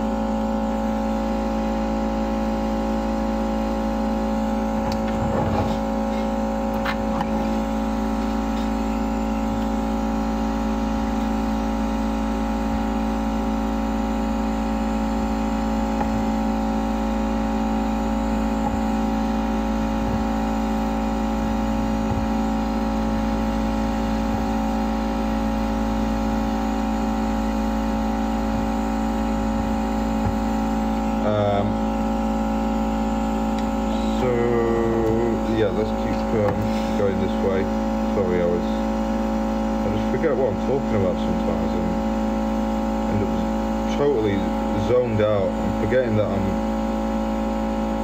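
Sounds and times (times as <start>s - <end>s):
hot air gun running: 0.0s - 48.0s.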